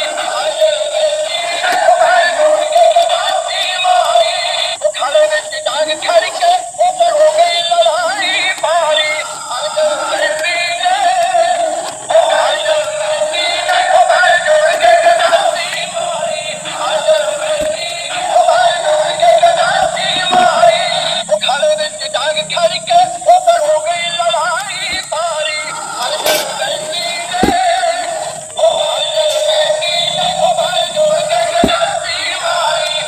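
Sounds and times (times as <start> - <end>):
thin background song with vocals: 0.0 - 33.0.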